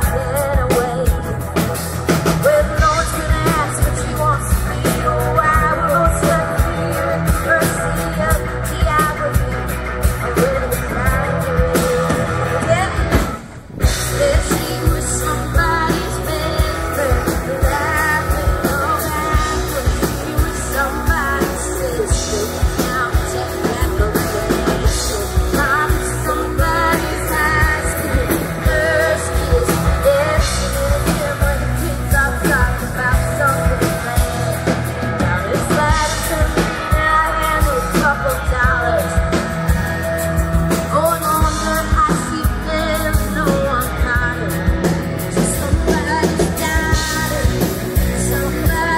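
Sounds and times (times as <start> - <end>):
drums: 0.0 - 48.9
electric guitar: 0.0 - 48.9
person singing: 0.0 - 48.9.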